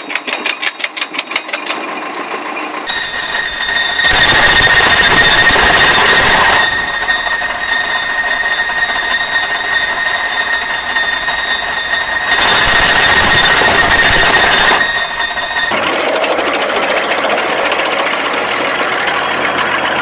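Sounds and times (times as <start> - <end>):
wood chipper whining: 2.8 - 20.0.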